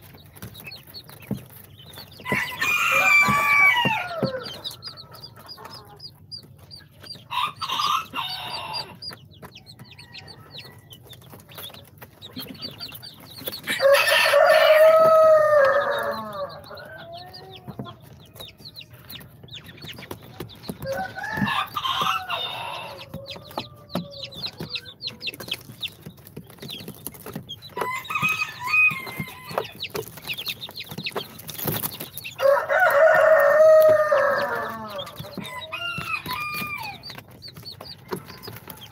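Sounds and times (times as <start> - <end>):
baby chicks peeping: 0.0 - 38.9
chickens calling: 0.0 - 38.9.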